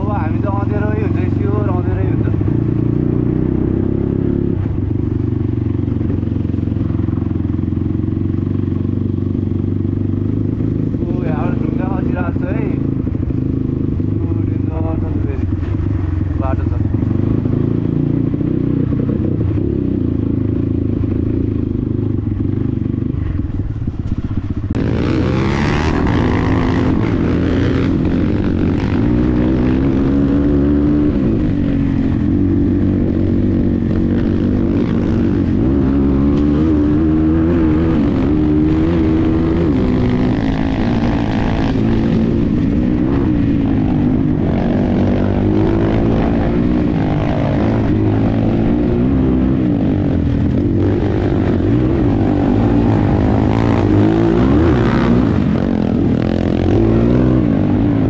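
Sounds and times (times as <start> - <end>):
dirt bike engine revving: 0.0 - 23.2, 24.2 - 58.0.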